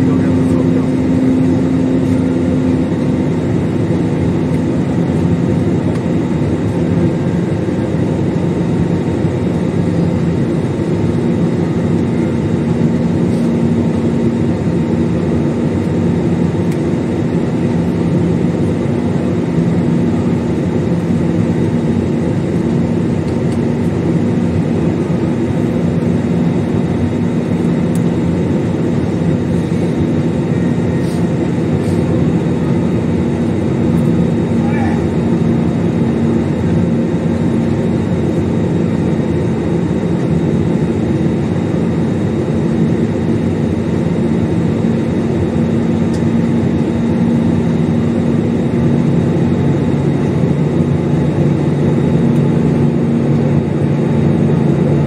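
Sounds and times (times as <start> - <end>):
airliner engine and rushing air: 0.0 - 55.0.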